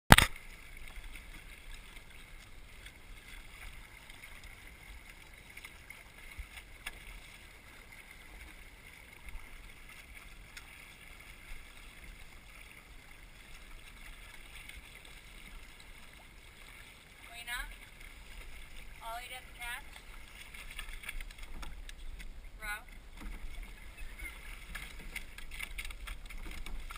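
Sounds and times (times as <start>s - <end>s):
boat and oar clicks: 0.1s - 26.9s
water wash: 0.1s - 26.9s.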